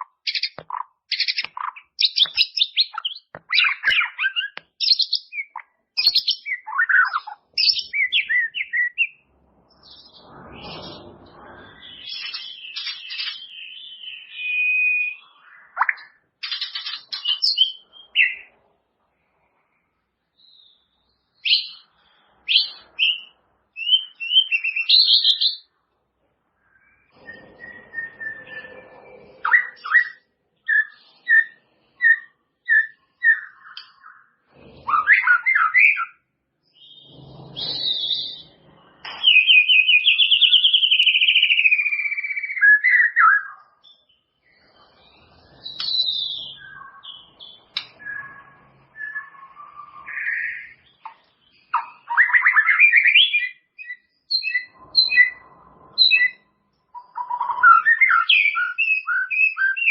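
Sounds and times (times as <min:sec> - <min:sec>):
songbird whistling and trilling: 0:00.0 - 0:09.2, 0:11.6 - 0:18.5, 0:20.4 - 0:25.7, 0:26.6 - 0:36.2, 0:36.8 - 0:59.9.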